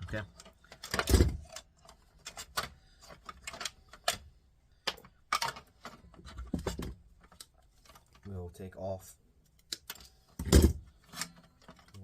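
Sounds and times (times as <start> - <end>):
plastic and metal parts clicking: 0.0 - 8.4, 9.4 - 12.0.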